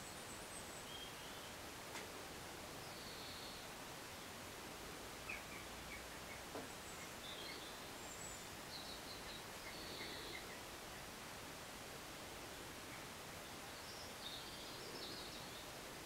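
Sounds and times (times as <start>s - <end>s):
small birds chirping: 0.0s - 11.4s, 12.1s - 16.0s
outdoor background hiss: 0.0s - 16.0s.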